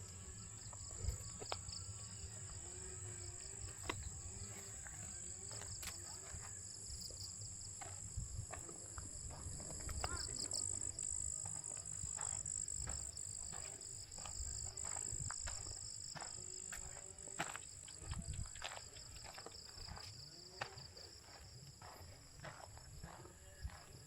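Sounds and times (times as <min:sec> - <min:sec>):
insects chirping: 0:00.0 - 0:24.0
footsteps on path: 0:00.6 - 0:24.0.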